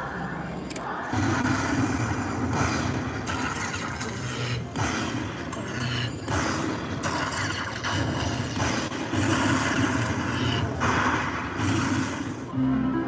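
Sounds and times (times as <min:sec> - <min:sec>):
slot machine electric zaps: 0:01.4 - 0:12.6.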